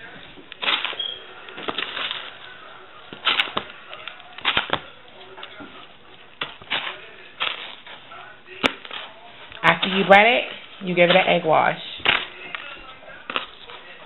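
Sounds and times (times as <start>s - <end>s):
hands rustling and slapping meat: 0.0s - 14.0s.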